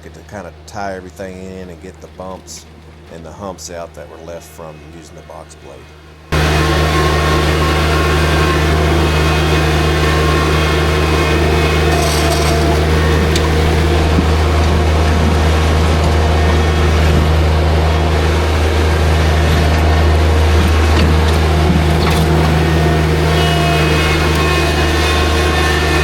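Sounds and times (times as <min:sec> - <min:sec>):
gravel scraping: 0:00.0 - 0:26.0
tractor engine running: 0:00.0 - 0:26.0.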